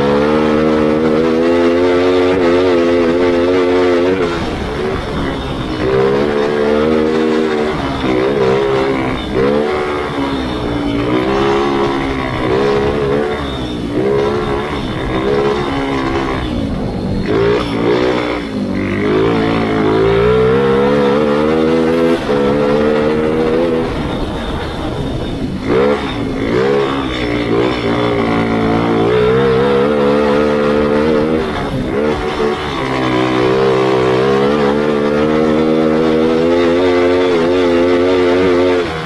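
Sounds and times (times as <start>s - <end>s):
kart engine revving: 0.0s - 39.0s.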